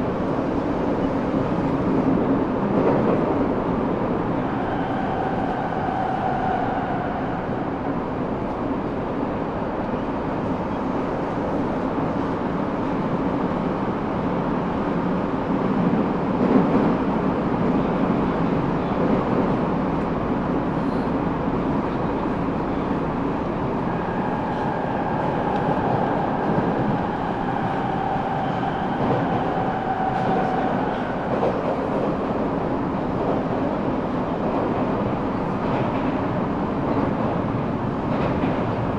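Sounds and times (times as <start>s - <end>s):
subway wheel and track rumble: 0.0s - 38.9s.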